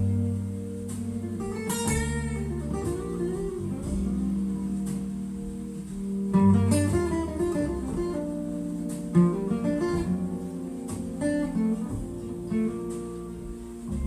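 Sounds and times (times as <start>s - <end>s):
guitar picking a melody: 0.0s - 14.0s
sustained low accompaniment: 0.0s - 14.0s.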